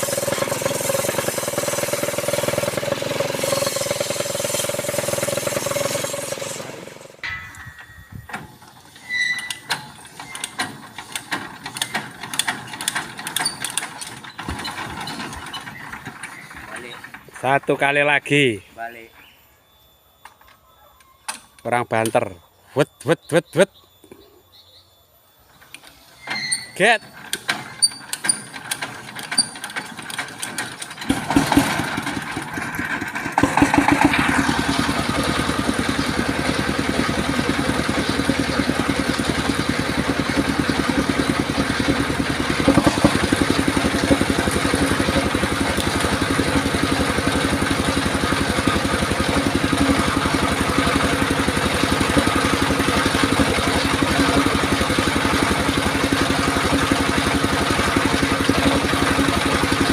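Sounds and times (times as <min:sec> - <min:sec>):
sawmill engine running: 0:00.0 - 0:17.5, 0:26.3 - 0:59.9.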